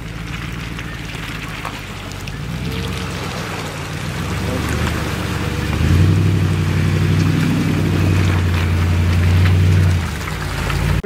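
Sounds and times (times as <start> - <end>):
car engine running under load: 0.0 - 11.0
water hissing: 0.0 - 11.0.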